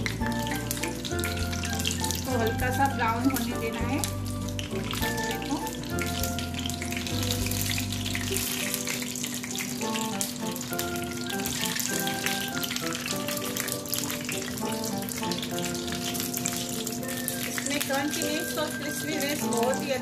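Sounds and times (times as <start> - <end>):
food sizzling in hot oil: 0.0 - 20.0
instrumental background music: 0.0 - 20.0.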